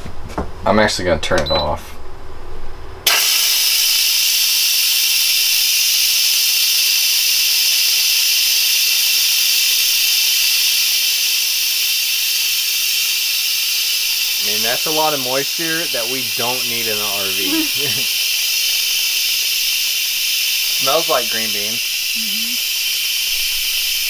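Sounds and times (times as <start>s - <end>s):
pressure cooker steam hiss: 3.1s - 24.0s.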